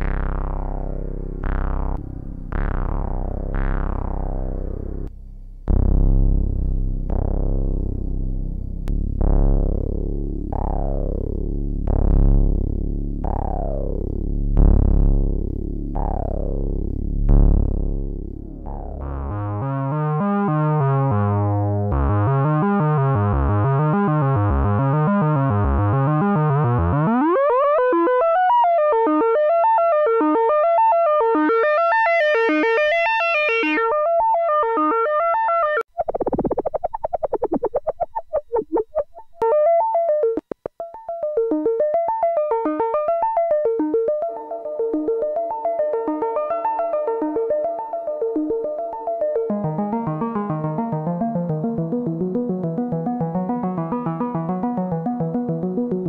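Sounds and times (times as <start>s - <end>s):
analog synthesizer patterns: 0.0s - 5.1s, 5.7s - 56.0s.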